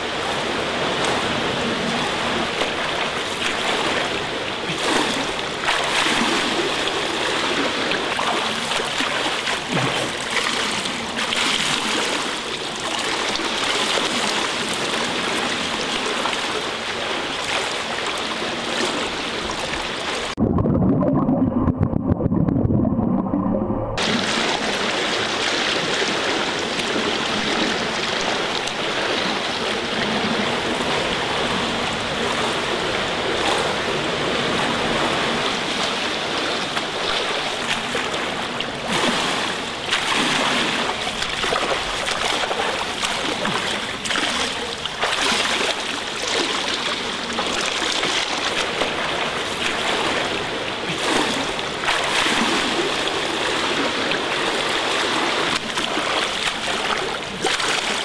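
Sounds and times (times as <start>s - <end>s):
swimmer splashing in pool: 0.0s - 20.4s, 24.0s - 33.8s, 34.8s - 58.0s
loud splashes at turn: 0.0s - 21.7s, 24.0s - 58.0s.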